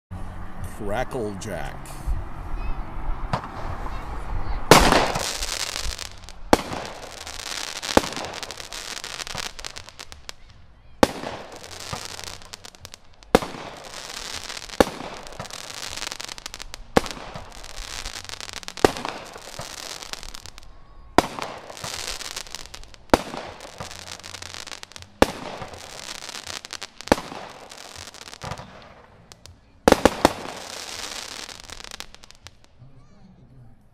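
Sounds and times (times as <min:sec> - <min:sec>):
firework bangs: 0:03.2 - 0:32.7
firework crackling: 0:03.3 - 0:32.8.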